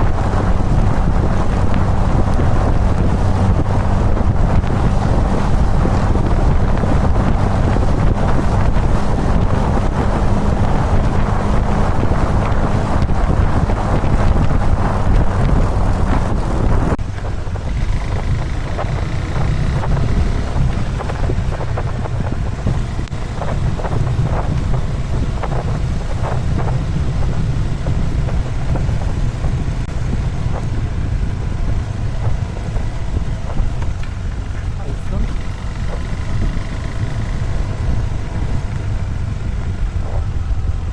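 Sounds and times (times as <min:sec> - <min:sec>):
motorcycle engine rumble: 0:00.0 - 0:40.9
wind buffeting microphone: 0:00.0 - 0:40.9.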